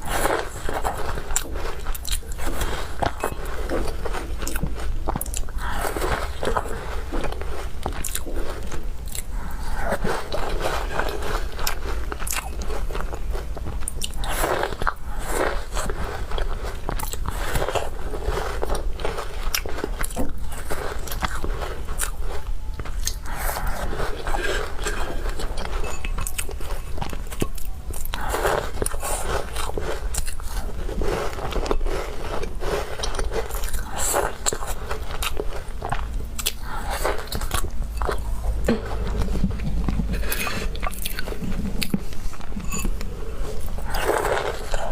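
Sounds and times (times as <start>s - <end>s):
chewing: 0.0s - 44.9s
crunching cookies: 0.0s - 44.9s.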